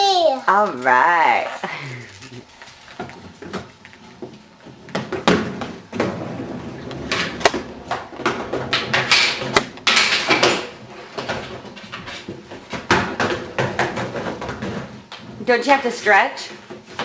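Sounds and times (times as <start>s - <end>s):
roller skates on hardwood floor: 0.1s - 17.0s.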